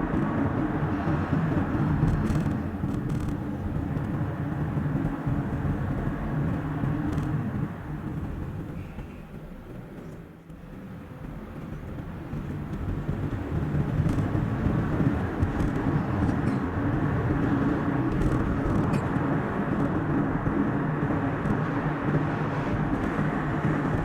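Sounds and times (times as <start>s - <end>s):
car tyre and engine noise: 0.0s - 24.0s.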